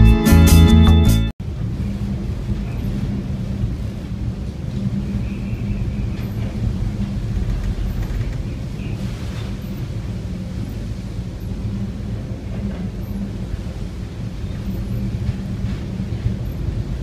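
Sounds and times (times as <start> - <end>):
ship engine drone: 0.0 - 17.0
wind and sea noise: 1.4 - 17.0.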